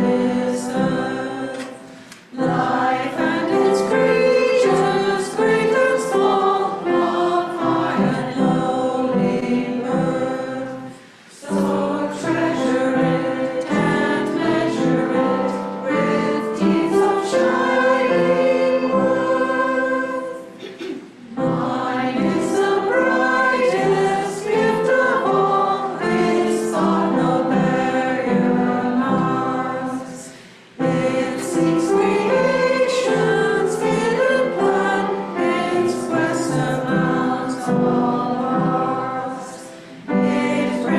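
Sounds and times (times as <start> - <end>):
congregation singing: 0.0 - 40.9.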